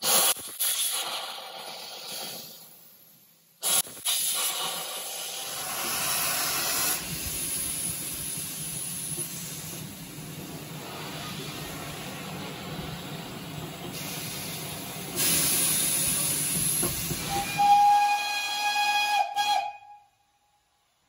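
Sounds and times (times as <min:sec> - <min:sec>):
sharp steam blast: 0:00.0 - 0:19.6
steam hissing: 0:00.0 - 0:19.7.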